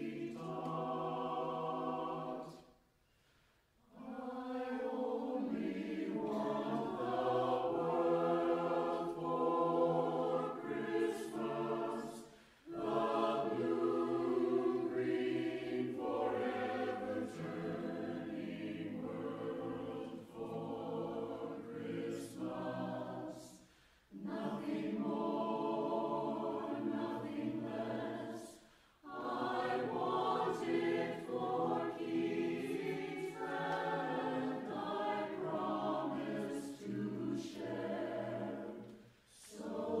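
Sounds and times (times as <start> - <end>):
choir singing a cappella: 0.0 - 40.0.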